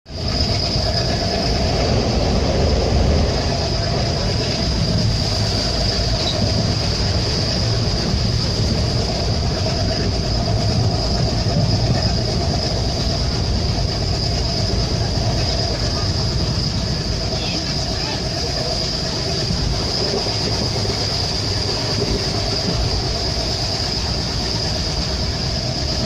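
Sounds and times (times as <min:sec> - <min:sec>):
deep engine rumble: 0:00.1 - 0:26.0.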